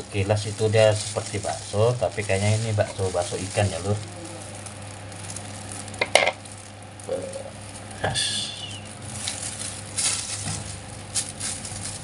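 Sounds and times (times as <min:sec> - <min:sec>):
plastic bag crinkling and rustling: 0:00.0 - 0:08.0, 0:08.6 - 0:12.0
low hum: 0:00.0 - 0:12.0.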